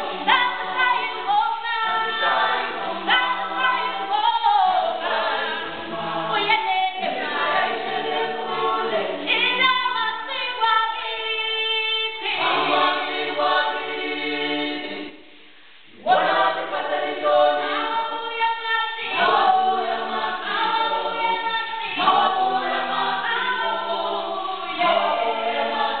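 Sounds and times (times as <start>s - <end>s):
choir singing in harmony: 0.0s - 26.0s.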